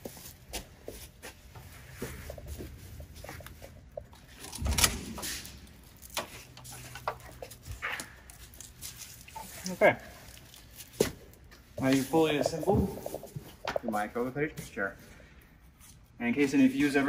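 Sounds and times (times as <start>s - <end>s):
handling clicks and rustles: 0.0s - 13.9s.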